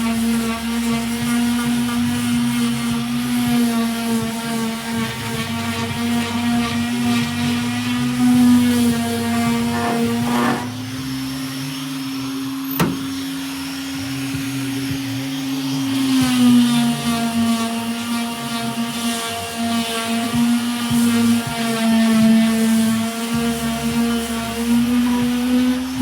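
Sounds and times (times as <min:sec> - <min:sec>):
electric sander whining: 0:00.0 - 0:26.0.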